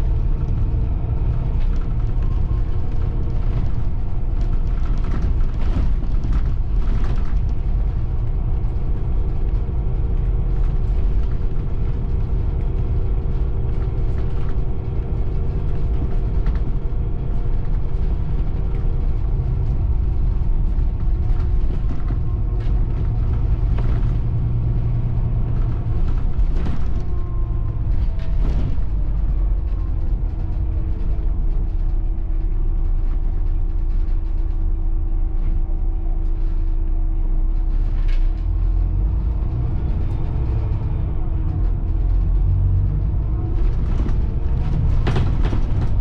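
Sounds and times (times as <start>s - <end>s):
coach engine and road drone: 0.0s - 46.0s.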